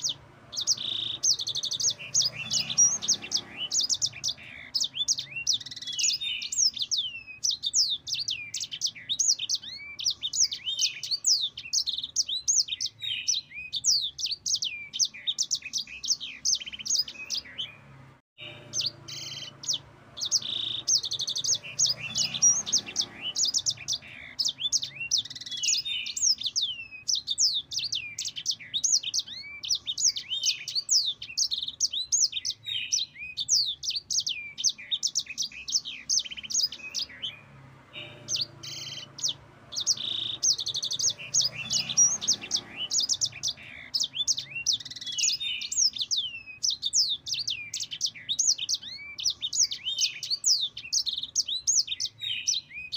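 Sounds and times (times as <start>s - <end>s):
canary singing: 0.0s - 52.9s.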